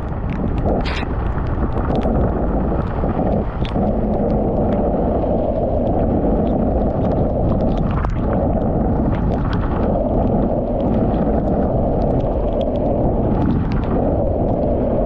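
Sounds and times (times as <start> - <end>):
rain ticking on camera housing: 0.0 - 15.0
wind buffeting microphone: 0.0 - 15.0.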